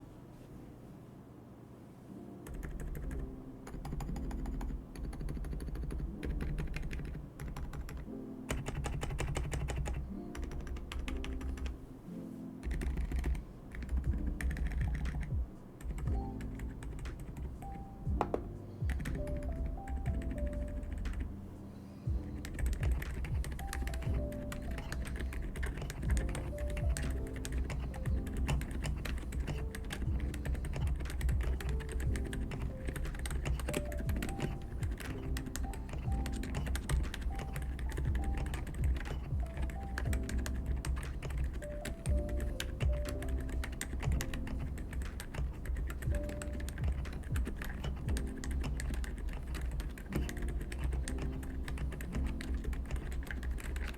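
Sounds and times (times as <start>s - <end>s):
background music: 2.0s - 53.9s
mechanical keyboard typing: 2.4s - 11.8s, 12.6s - 21.3s, 22.1s - 53.9s.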